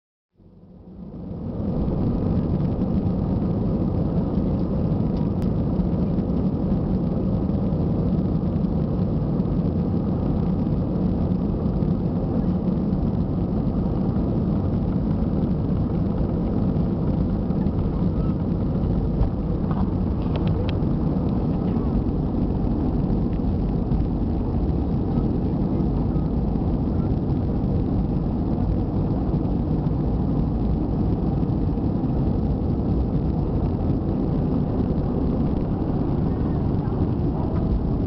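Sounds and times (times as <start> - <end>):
jet engines rumbling in cabin: 0.4 - 38.0.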